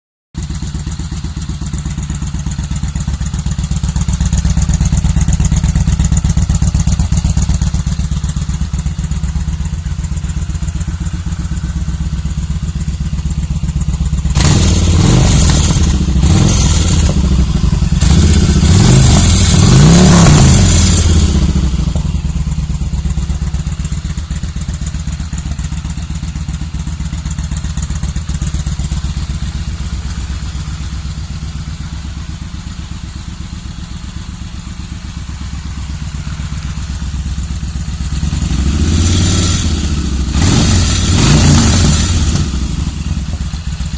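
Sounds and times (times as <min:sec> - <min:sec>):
motorcycle engine idling and revving: 0:00.4 - 0:43.9.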